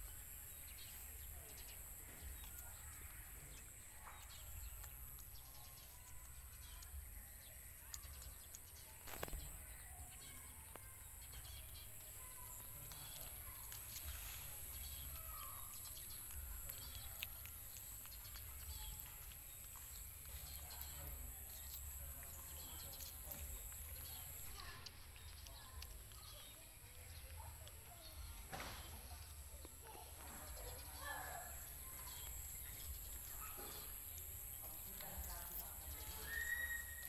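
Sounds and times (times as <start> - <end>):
faint bird chirps: 0.0 - 29.0, 29.9 - 37.0.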